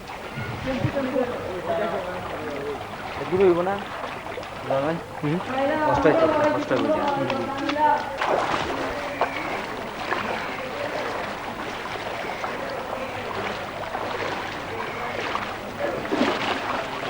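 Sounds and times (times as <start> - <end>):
faint voices: 0.0 - 17.0
floodwater splashing and flowing: 0.0 - 17.0.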